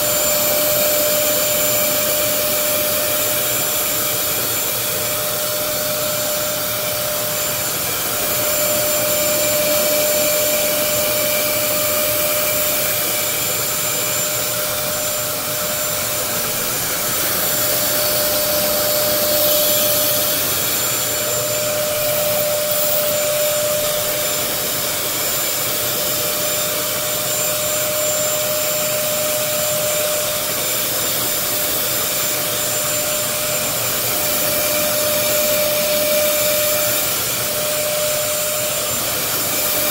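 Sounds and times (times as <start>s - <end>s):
vacuum motor running with whine: 0.0s - 39.9s.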